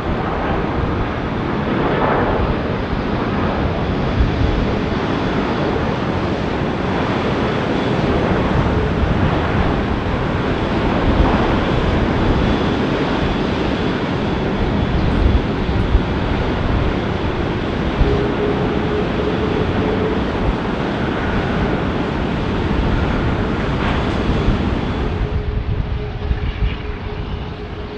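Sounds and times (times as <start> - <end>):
jet engine roar: 0.0 - 27.9
wind buffeting microphone: 0.0 - 27.9.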